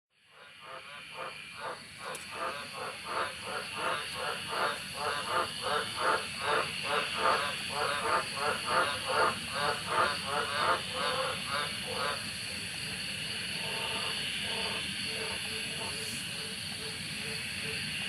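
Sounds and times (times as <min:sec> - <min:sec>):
frogs croaking: 0:00.2 - 0:18.0
high-pitched frog chorus: 0:00.2 - 0:18.0.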